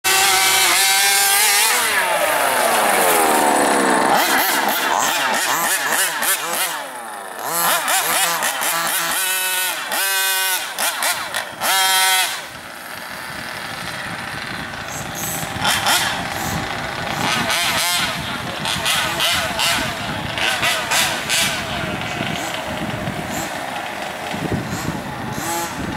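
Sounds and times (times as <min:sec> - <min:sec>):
two-stroke engines revving: 0:00.0 - 0:25.9.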